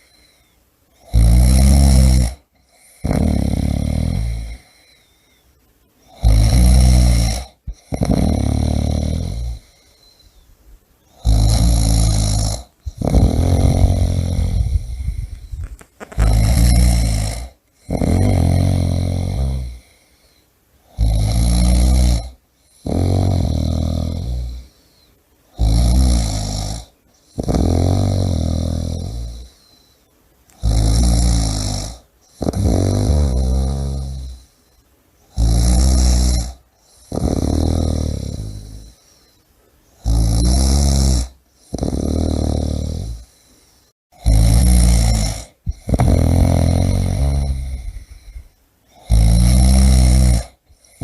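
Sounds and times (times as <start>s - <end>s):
person snoring loudly: 1.0s - 5.0s, 6.1s - 9.9s, 11.1s - 20.1s, 20.9s - 24.8s, 25.5s - 29.8s, 30.6s - 34.5s, 35.3s - 39.0s, 40.0s - 43.4s, 44.1s - 51.0s.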